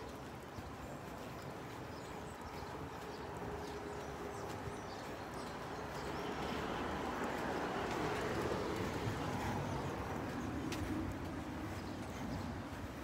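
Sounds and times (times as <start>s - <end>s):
footsteps on pavement: 0.0s - 13.0s.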